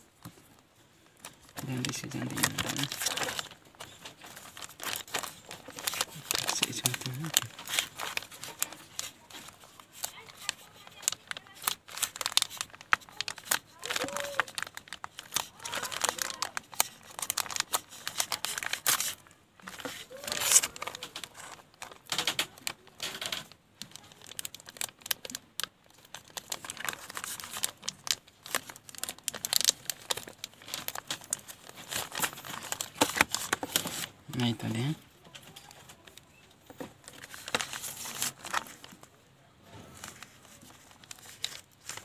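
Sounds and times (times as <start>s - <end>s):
plastic envelope being torn open: 1.2s - 36.3s, 37.0s - 39.1s, 39.9s - 42.0s.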